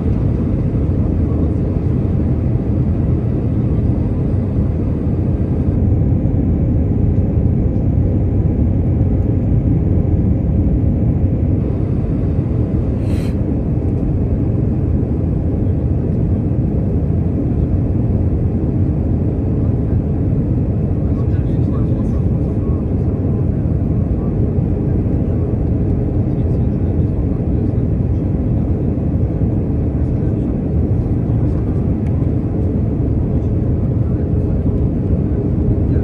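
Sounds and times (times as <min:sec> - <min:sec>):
airplane cabin drone: 0:00.0 - 0:36.0.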